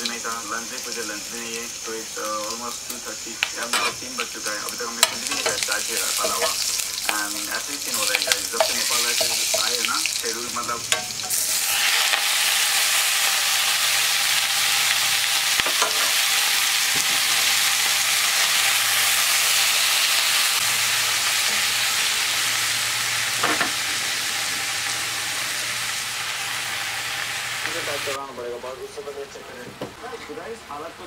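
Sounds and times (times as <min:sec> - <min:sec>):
greens sizzling in hot oil: 0:00.0 - 0:28.2.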